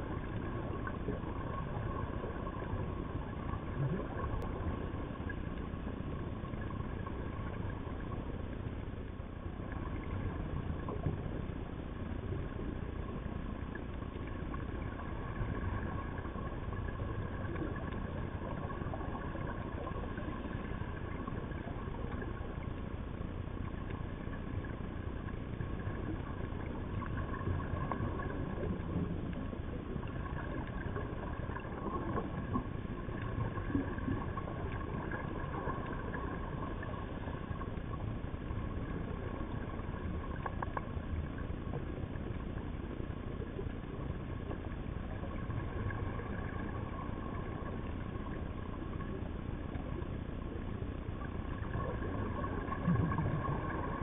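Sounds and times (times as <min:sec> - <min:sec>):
underwater rumble: 0:00.0 - 0:54.0.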